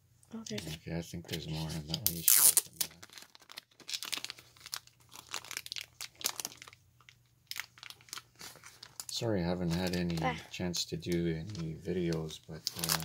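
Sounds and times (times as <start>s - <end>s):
plastic sleeve crinkling: 0.4s - 13.0s.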